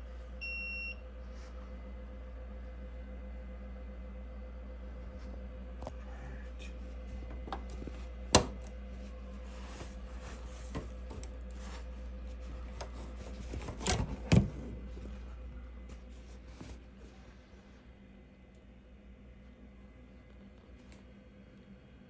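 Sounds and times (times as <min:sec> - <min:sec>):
embroidery machine humming: 0:00.0 - 0:22.0.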